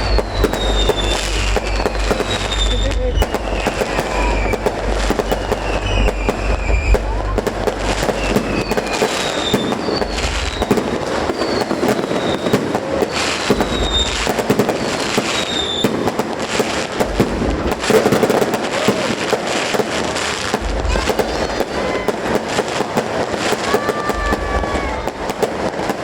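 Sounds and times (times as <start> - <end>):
falling whistles of fireworks: 0.0 - 26.0
fireworks bangs and crackling: 0.0 - 26.0.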